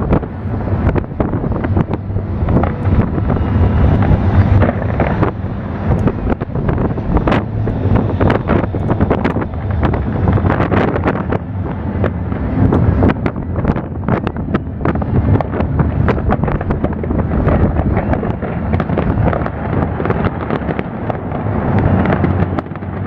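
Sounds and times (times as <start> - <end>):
fireworks bangs and crackles: 0.0 - 23.0
wind rumble on microphone: 0.0 - 23.0.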